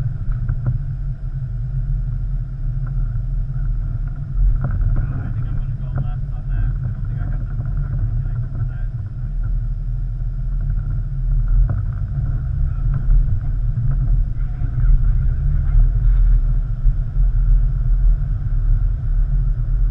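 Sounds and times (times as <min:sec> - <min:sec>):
car engine and tyres rumbling: 0:00.0 - 0:19.9.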